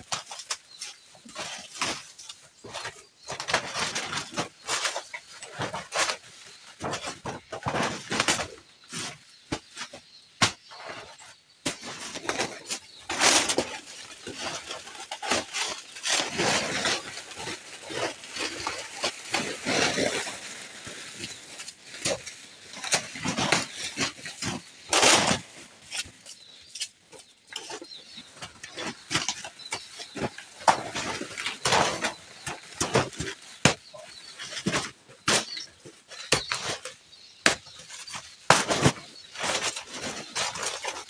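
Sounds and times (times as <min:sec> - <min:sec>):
cut plants rustling: 0:00.0 - 0:41.0.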